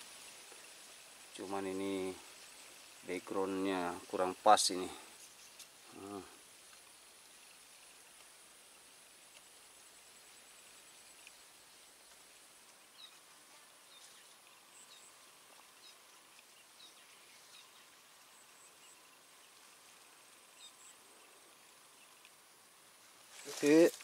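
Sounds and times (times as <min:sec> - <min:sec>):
faint high hiss: 0:00.0 - 0:24.0.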